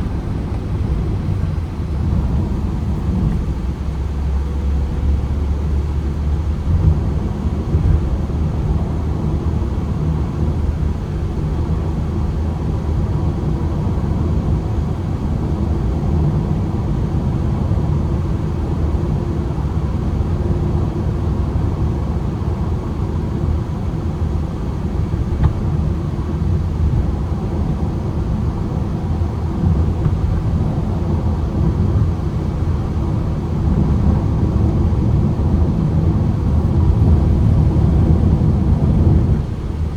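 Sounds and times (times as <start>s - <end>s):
road noise: 0.0s - 14.6s, 19.0s - 39.9s
van engine rumble: 0.0s - 39.9s.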